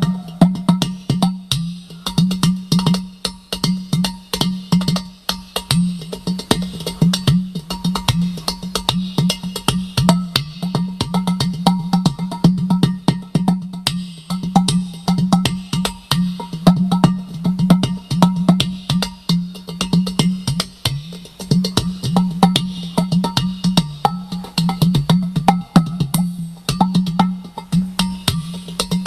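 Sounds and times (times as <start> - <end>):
clay pot drum played by hand: 0.0 - 29.0.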